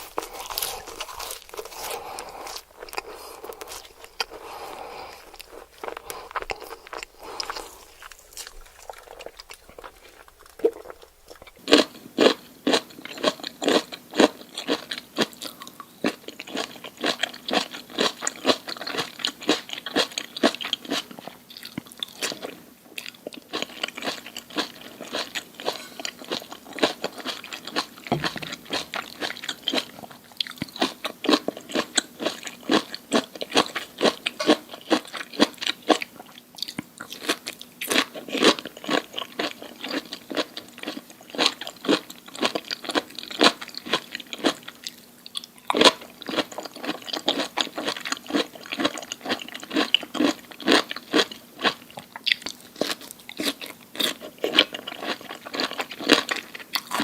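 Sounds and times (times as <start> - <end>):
crunchy food being chewed: 0.0 - 57.0.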